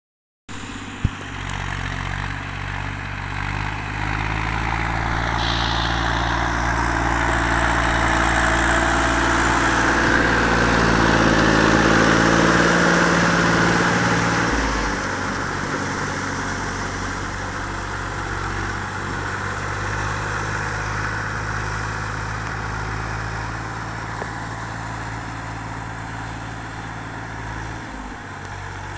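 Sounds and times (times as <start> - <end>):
tractor diesel engine running: 0.5 - 28.9.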